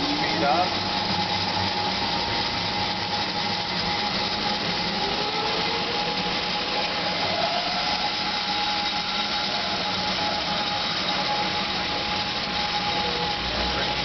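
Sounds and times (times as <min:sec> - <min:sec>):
bandsaw whining: 0:00.0 - 0:14.0.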